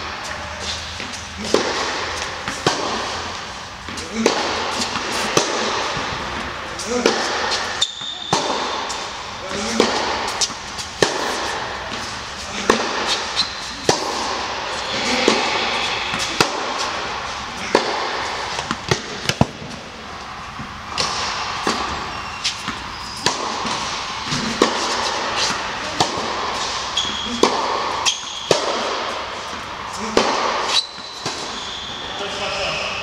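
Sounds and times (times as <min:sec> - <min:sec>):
racket hitting tennis ball: 0:00.0 - 0:31.7.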